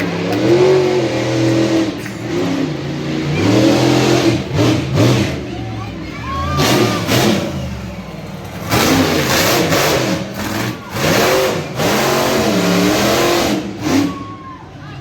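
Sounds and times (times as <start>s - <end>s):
truck engine revving hard: 0.0s - 14.6s.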